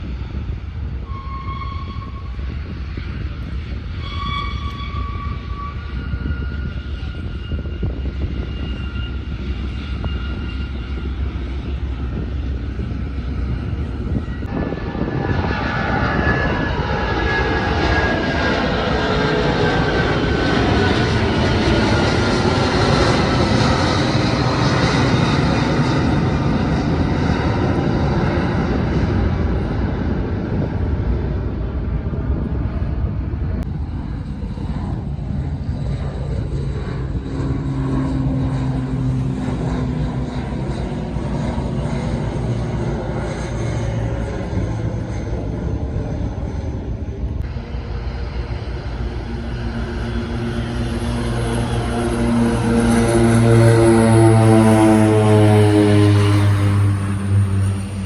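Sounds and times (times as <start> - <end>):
airplane engines rumbling: 0.0 - 58.0
falling engine whine: 0.0 - 58.0.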